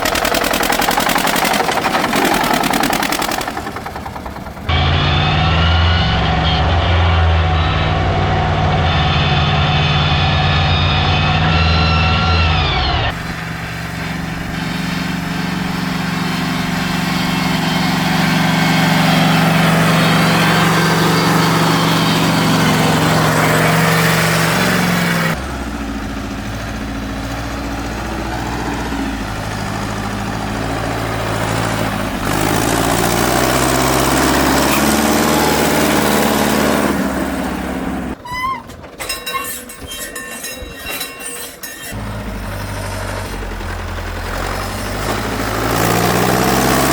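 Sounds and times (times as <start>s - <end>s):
tractor engines running: 0.0s - 46.9s.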